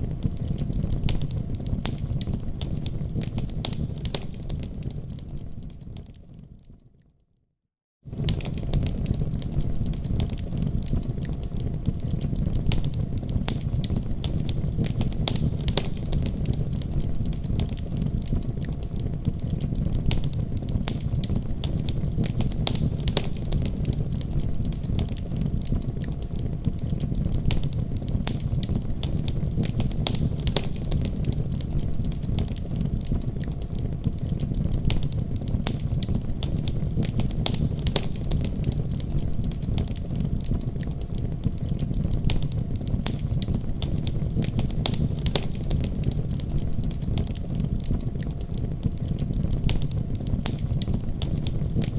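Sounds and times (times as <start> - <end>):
fire crackling in a fireplace: 0.0 - 7.3, 8.0 - 51.9.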